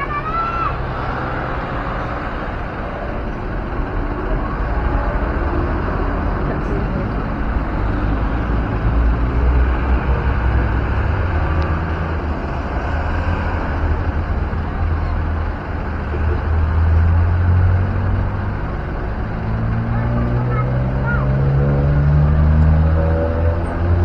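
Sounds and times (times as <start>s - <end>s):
bus engine rumble: 0.0s - 24.0s
road traffic: 0.0s - 24.0s.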